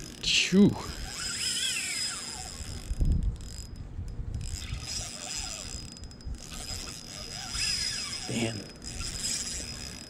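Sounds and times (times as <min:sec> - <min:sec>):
fishing reel drag buzzing: 0:00.0 - 0:10.0.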